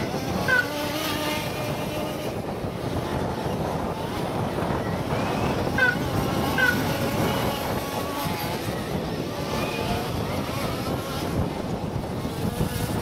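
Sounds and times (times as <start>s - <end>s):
small two-stroke engines buzzing: 0.0s - 13.0s
wind noise on microphone: 0.0s - 13.0s.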